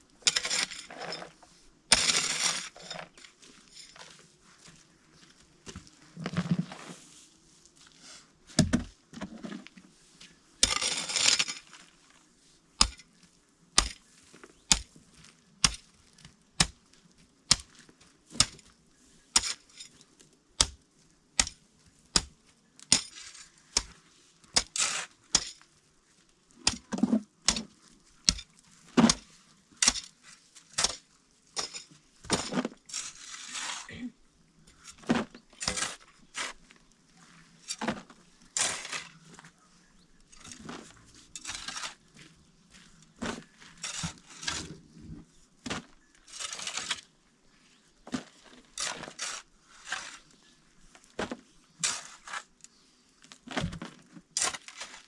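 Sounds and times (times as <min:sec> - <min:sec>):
crunching and scraping: 0:00.2 - 0:55.0.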